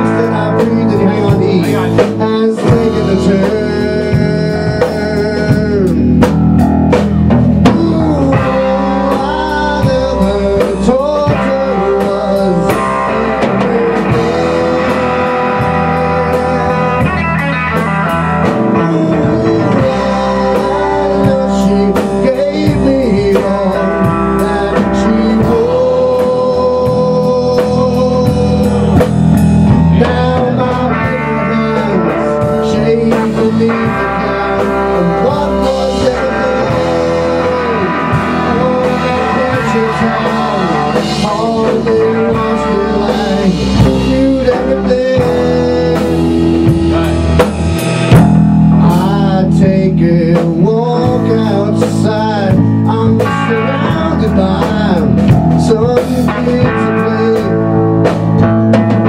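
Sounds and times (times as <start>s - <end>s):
bass guitar: 0.0s - 59.0s
drums and cymbals: 0.0s - 59.0s
electric guitar bending notes: 0.0s - 59.0s.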